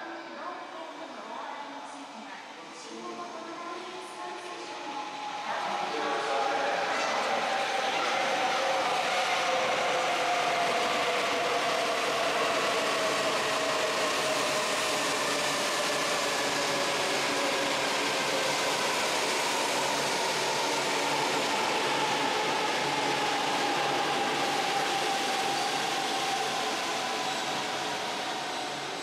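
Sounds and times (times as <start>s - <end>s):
train slowing with falling whine: 2.5s - 29.0s.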